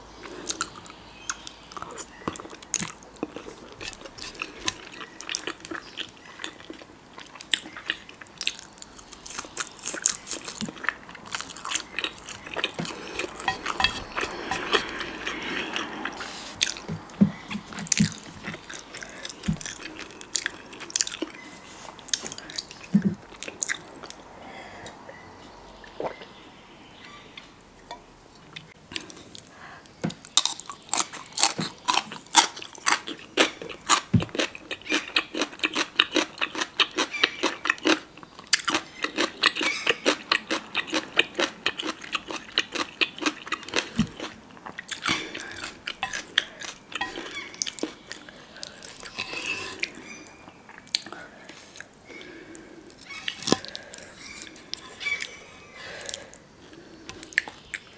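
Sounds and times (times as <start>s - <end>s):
chewing with wet clicks: 0.2s - 24.2s, 30.2s - 51.2s, 51.8s - 57.9s.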